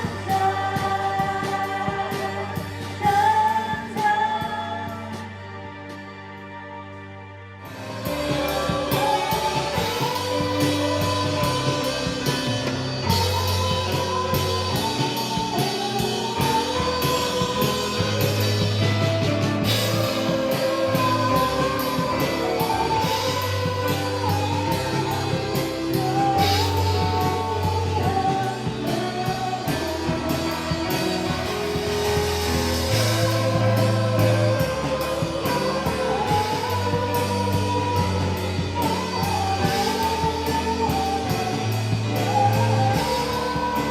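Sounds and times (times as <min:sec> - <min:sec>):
worship band playing: 0:00.0 - 0:43.9
person singing melody: 0:07.6 - 0:43.9.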